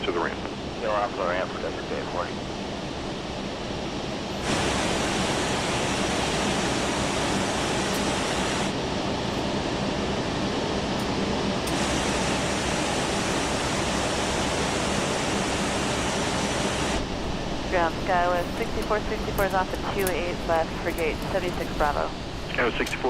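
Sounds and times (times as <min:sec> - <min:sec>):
low hum: 0:00.0 - 0:23.0
steady cockpit rushing noise: 0:00.0 - 0:23.0.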